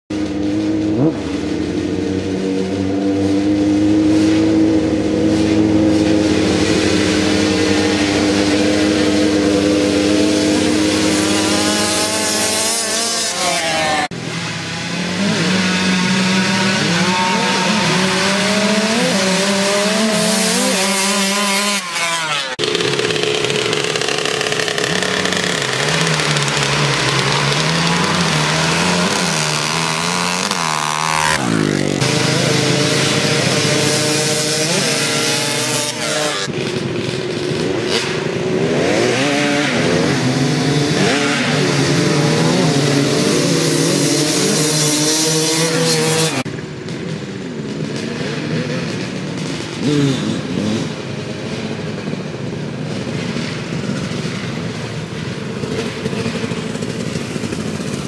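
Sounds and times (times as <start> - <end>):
dirt bike engines revving: 0.1 - 58.0.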